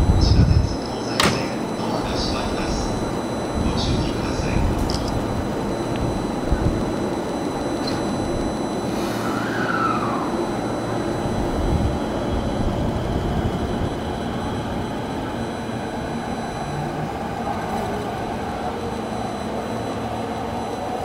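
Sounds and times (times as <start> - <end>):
electric train rumbling: 0.0 - 21.0
train whine: 0.0 - 21.0.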